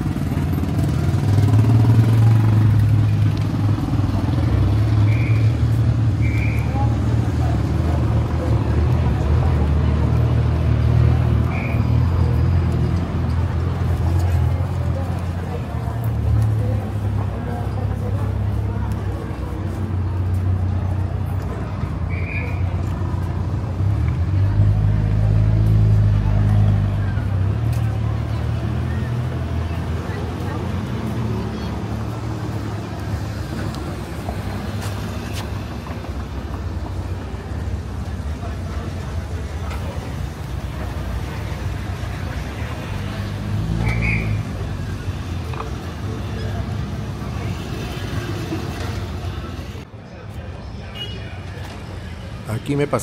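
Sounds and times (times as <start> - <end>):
vehicle engine humming: 0.0 - 50.6
street traffic: 0.0 - 53.0.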